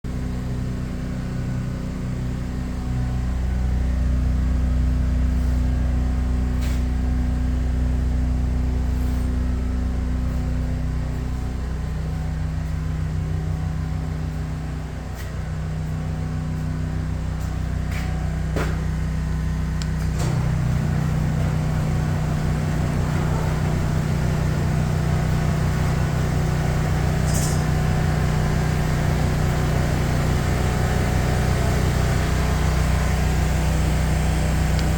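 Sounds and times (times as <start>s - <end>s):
garage door opener motor humming: 0.1s - 34.9s.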